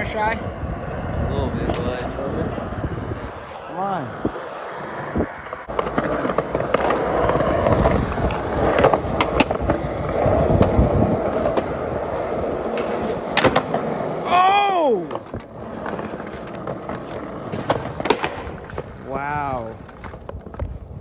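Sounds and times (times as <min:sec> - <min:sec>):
skateboard wheels rolling on concrete: 0:00.0 - 0:21.0
skateboard clacking on ground: 0:00.4 - 0:21.0.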